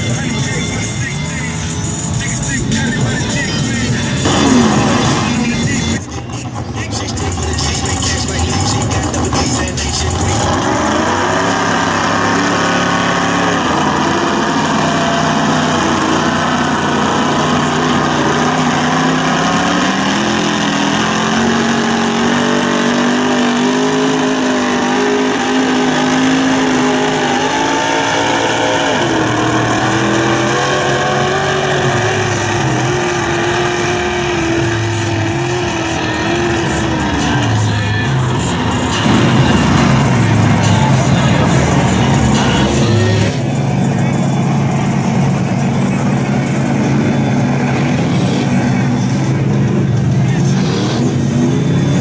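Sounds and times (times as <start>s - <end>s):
truck engine revving hard: 0.0s - 52.0s.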